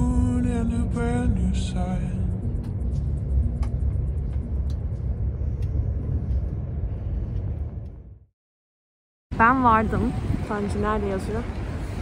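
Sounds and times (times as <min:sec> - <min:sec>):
train rumble: 0:00.0 - 0:08.3, 0:09.3 - 0:12.0.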